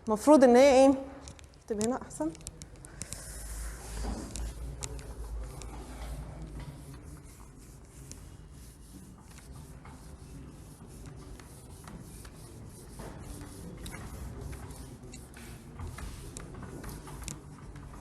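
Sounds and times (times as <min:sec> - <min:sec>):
pen scratching on paper: 0:02.2 - 0:18.0.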